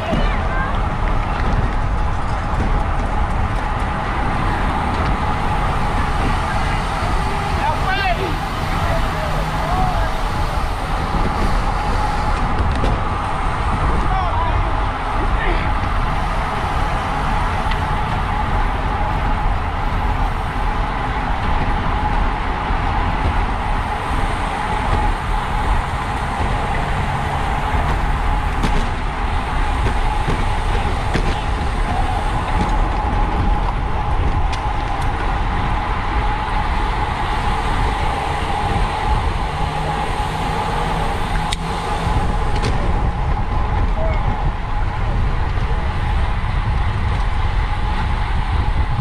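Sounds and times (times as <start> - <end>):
bicycle tyre and drivetrain hum: 0.0 - 49.0
wind over microphone: 0.0 - 49.0.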